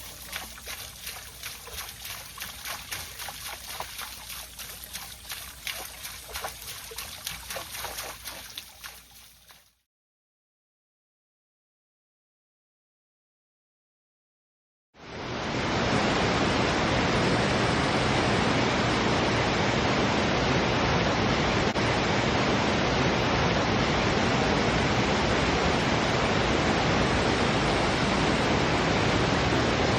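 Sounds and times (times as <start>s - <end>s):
stream rushing over rocks: 0.0s - 9.5s, 15.0s - 29.9s.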